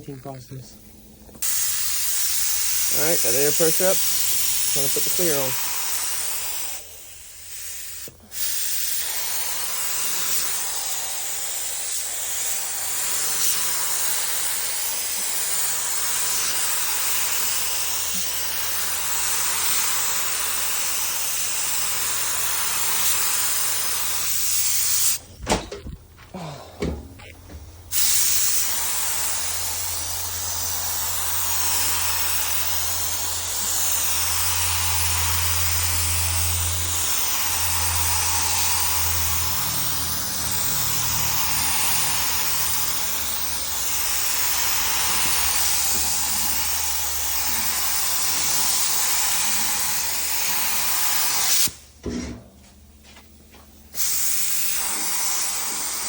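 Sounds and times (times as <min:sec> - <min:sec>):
spray gun hissing: 0:01.4 - 0:25.3, 0:27.9 - 0:51.9, 0:53.8 - 0:56.0.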